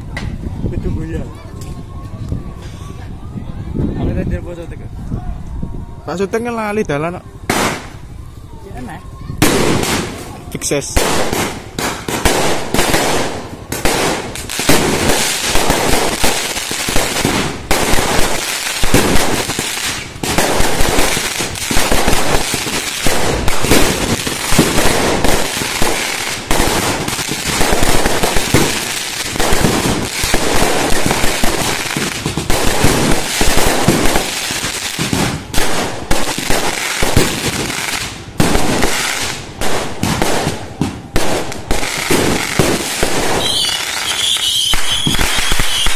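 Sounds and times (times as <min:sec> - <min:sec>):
fireworks bangs and crackling: 0:06.9 - 0:45.9.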